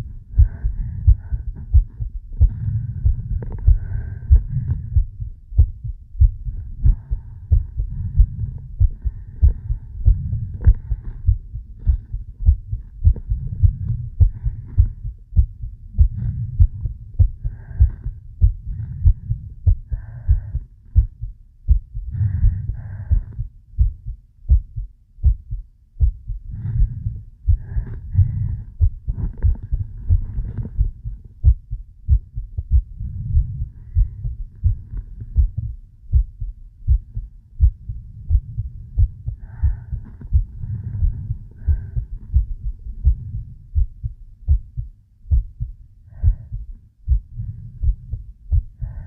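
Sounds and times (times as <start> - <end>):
heartbeat thumps: 0.0 - 49.0
soft breaths: 0.0 - 49.0.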